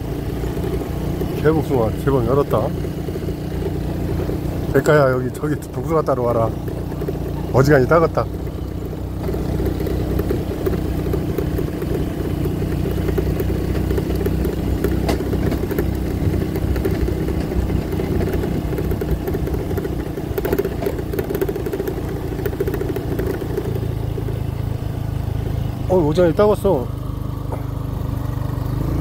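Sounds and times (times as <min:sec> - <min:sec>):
light rattling: 0:00.0 - 0:26.8
scooter engine running: 0:00.0 - 0:29.0.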